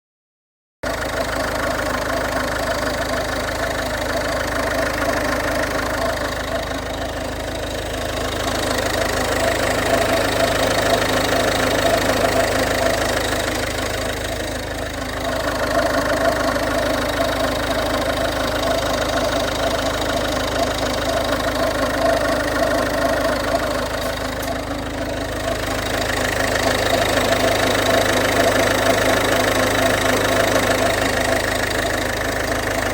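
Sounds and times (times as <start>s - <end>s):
diesel engine idling: 0.8s - 32.9s.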